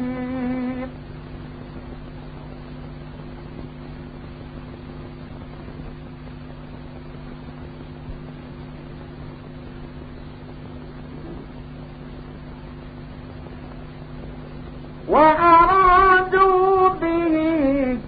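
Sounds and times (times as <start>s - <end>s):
low even hum: 0.0s - 18.0s
steady recording hiss: 0.0s - 18.0s.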